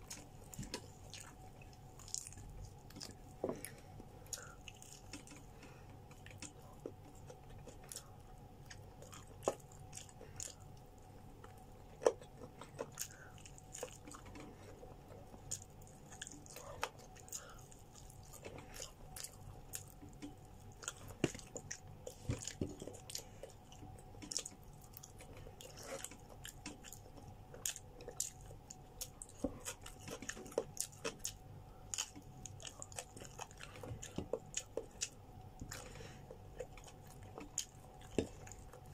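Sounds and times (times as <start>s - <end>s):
chewing and biting food: 0.0s - 38.9s.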